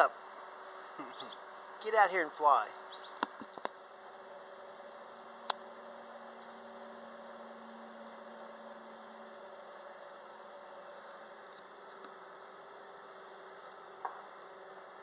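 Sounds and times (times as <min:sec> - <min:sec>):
faint droning hum: 0:00.0 - 0:15.0.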